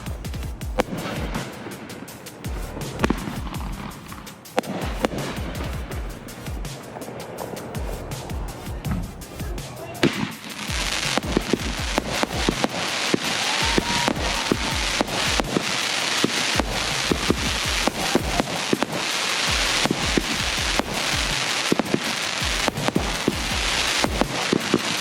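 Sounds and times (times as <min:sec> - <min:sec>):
firework bangs: 0:00.0 - 0:25.0
firework crackling: 0:00.0 - 0:25.0.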